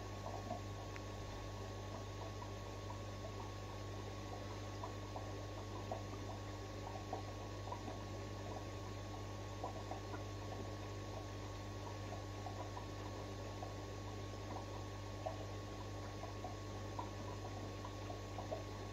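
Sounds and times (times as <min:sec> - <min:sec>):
aquarium filter humming: 0:00.0 - 0:18.9
water bubbling and dripping: 0:00.1 - 0:18.9.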